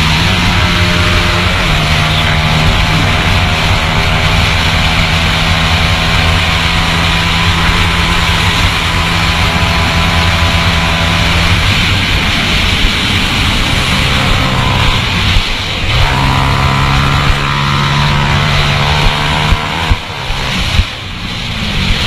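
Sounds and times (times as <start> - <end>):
motorcycle engine running hard: 0.0 - 22.0
wind rushing over microphone: 0.0 - 22.0.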